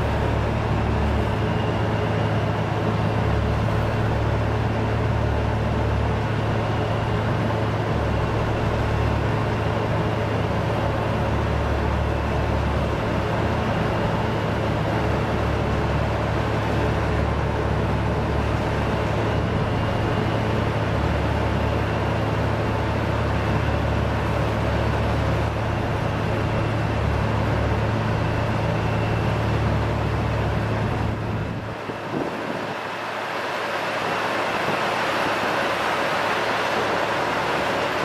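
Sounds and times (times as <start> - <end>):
heavy diesel engine drone: 0.0 - 38.0.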